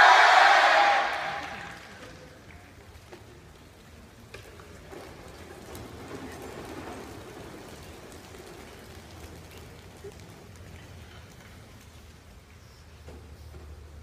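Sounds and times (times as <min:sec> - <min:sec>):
low hall murmur: 0:00.0 - 0:14.0.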